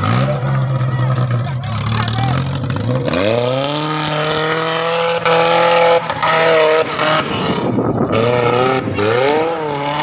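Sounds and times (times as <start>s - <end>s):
buggy engine revving hard: 0.0s - 10.0s.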